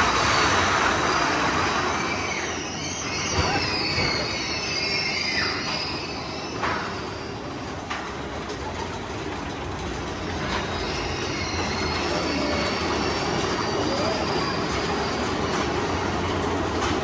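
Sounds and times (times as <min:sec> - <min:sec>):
high wheel squeal: 0:00.0 - 0:08.2, 0:10.0 - 0:17.0
roller coaster wheels rumbling on rails: 0:00.0 - 0:17.0.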